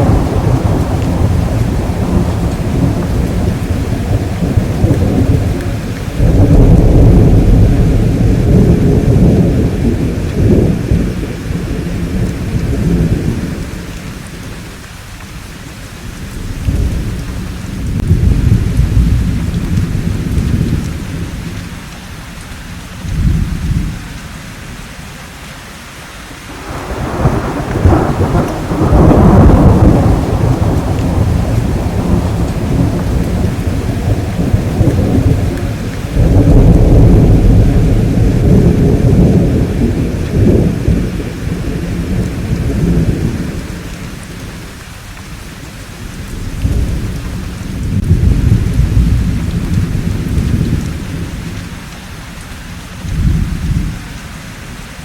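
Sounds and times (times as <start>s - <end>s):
rolling thunder: 0.0s - 14.6s, 16.0s - 21.8s, 23.0s - 24.1s, 26.5s - 51.9s, 53.0s - 54.0s
rain hiss: 0.0s - 55.0s.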